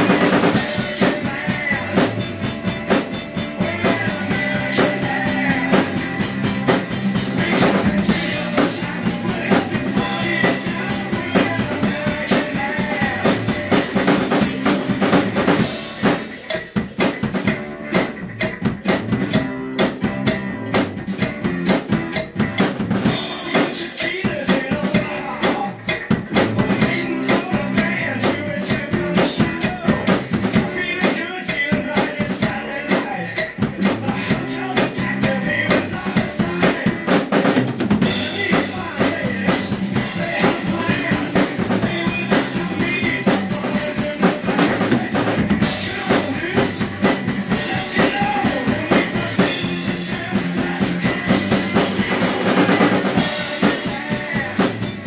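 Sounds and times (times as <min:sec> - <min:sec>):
drum kit beat: 0:00.0 - 0:55.0
rock band guitar and bass: 0:00.0 - 0:55.0.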